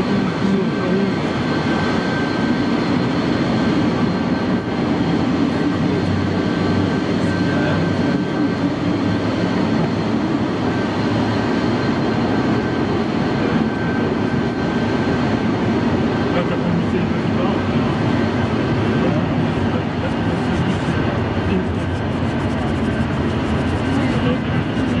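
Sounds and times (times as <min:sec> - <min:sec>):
jet engines taxiing: 0:00.0 - 0:25.0.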